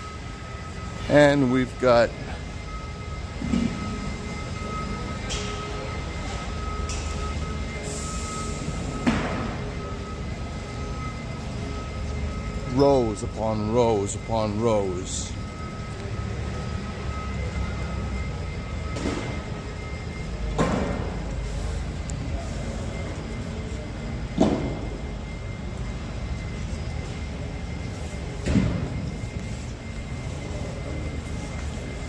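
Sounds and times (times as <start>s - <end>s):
low rumble and hum of hall: 0.0s - 32.0s.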